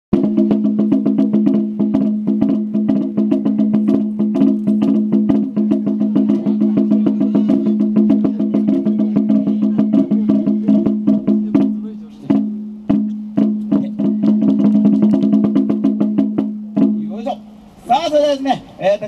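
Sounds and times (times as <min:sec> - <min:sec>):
small drum beaten with sticks: 0:00.1 - 0:17.6.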